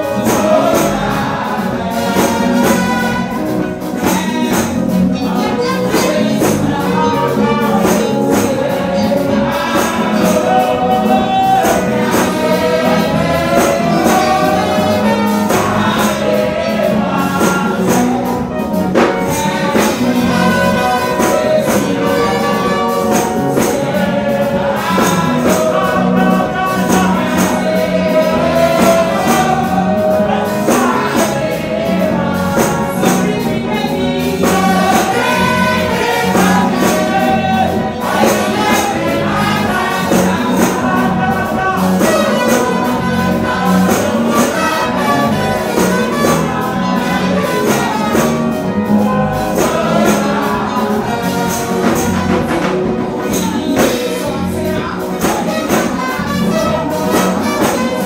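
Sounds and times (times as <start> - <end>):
tambourine beat: 0.0 - 58.0
voices singing over a band: 0.0 - 58.0.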